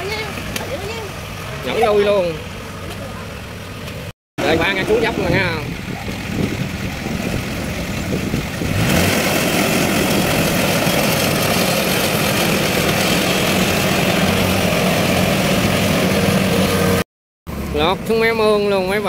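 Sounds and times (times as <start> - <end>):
combine harvester diesel engine: 0.0 - 19.0.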